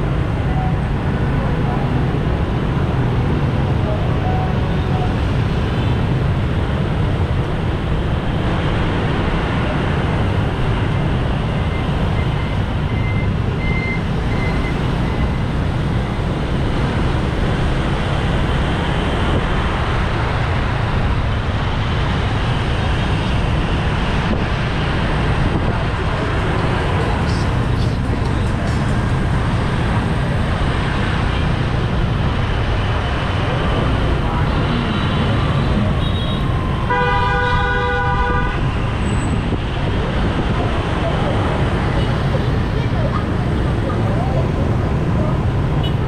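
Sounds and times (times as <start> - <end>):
scooter engines: 0.0 - 37.1, 38.2 - 46.0
tyres on road: 0.0 - 46.0.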